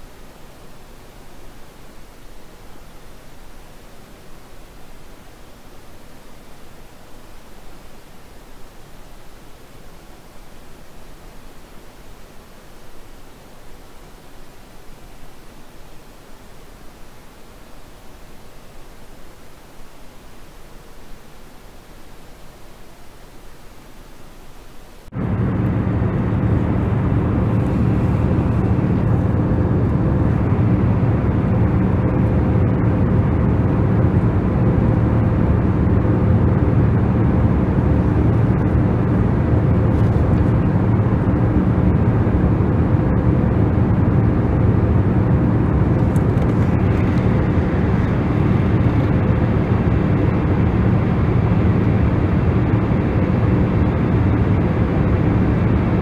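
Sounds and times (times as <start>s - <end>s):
deep rumbling hiss: 0.0s - 56.0s
faint steady hum: 0.0s - 56.0s.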